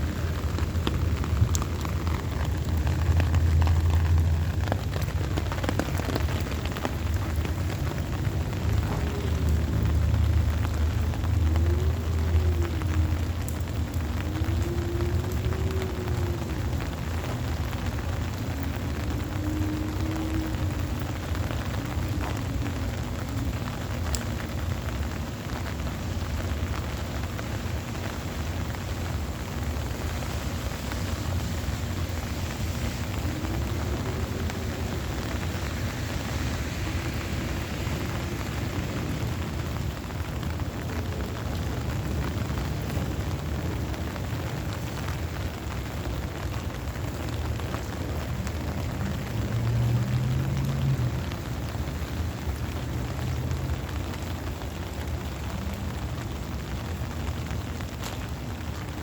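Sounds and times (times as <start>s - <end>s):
low rumble: 0.0s - 52.7s
heavy rain falling: 0.0s - 59.0s.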